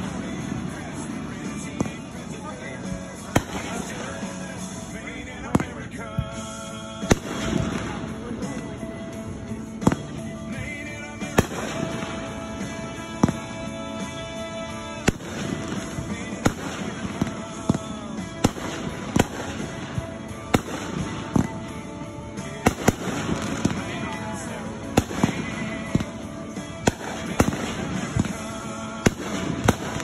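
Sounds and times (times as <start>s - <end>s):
fireworks bangs: 0.0s - 30.0s
fireworks crackle: 0.0s - 30.0s.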